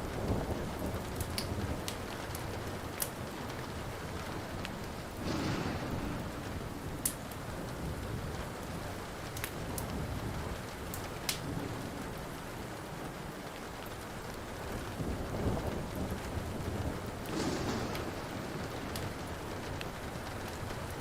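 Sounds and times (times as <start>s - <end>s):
low thunder rumble: 0.0s - 13.3s, 14.5s - 21.0s
steady rain: 0.0s - 21.0s
wood fire crackling pops: 0.4s - 11.5s, 15.0s - 21.0s.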